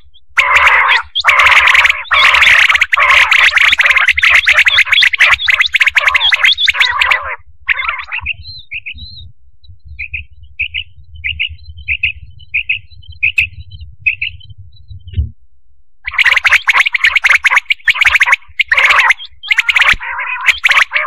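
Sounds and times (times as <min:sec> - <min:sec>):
quail calling: 0:00.0 - 0:09.2, 0:10.0 - 0:14.4, 0:16.1 - 0:21.0
low hum: 0:02.0 - 0:20.1.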